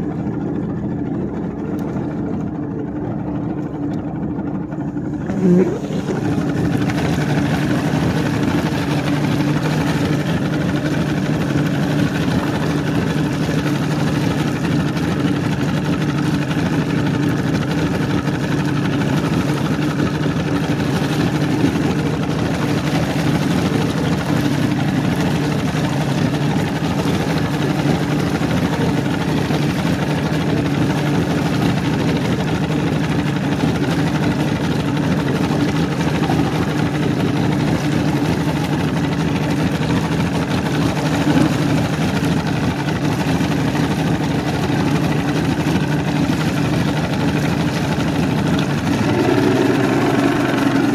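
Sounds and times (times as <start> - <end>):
outboard motor running: 0.0 - 50.9
water churning: 0.0 - 50.9.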